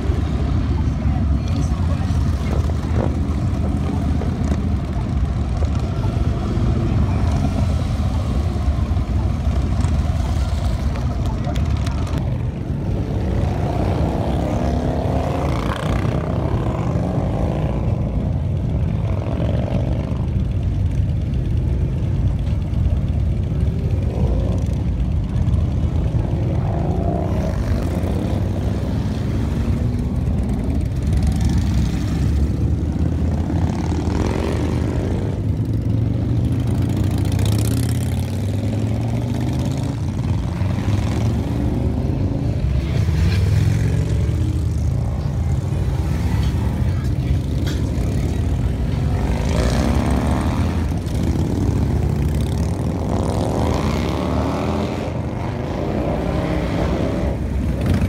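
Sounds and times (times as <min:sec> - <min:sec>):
motorcycle engines rumbling: 0:00.0 - 0:58.0
motorcycle revving: 0:00.0 - 0:58.0.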